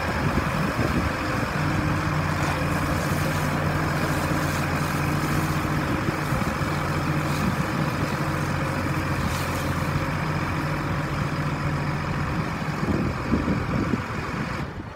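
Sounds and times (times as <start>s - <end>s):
diesel tractor engine idling: 0.0s - 14.9s.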